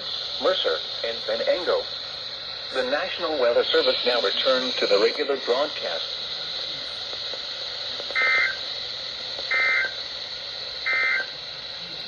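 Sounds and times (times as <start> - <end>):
short data bursts: 0.0 - 10.2, 10.8 - 11.4
radio hiss: 0.0 - 12.0.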